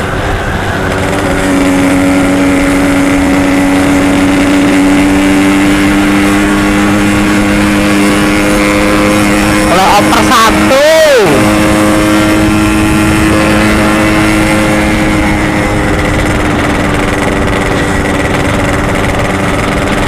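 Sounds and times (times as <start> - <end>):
two-stroke motorcycle engine: 0.0 - 20.0.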